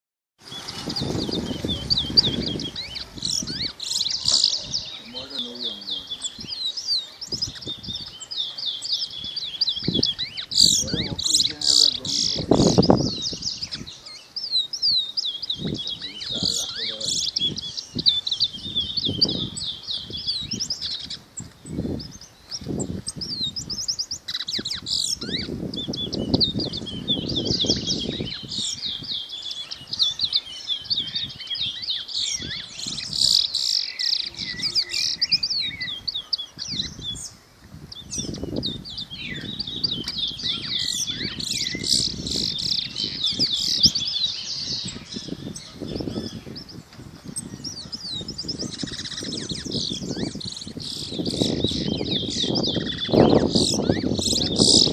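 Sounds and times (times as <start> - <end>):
small birds chirping and twittering: 0.4 - 54.9.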